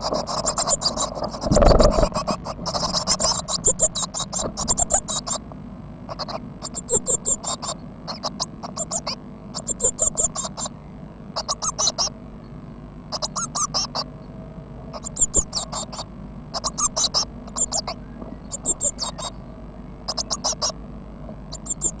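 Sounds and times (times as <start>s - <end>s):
bird chicks chirping: 0.0s - 5.4s, 6.1s - 10.8s, 11.4s - 12.1s, 13.1s - 14.1s, 14.9s - 20.8s, 21.5s - 22.0s
faint electrical hum: 0.0s - 22.0s.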